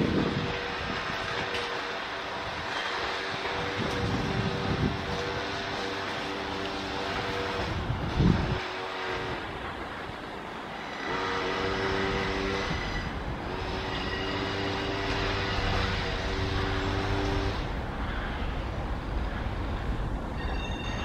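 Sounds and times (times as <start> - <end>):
electric train whine: 0.0 - 21.0
train wheels rumbling on track: 0.0 - 21.0.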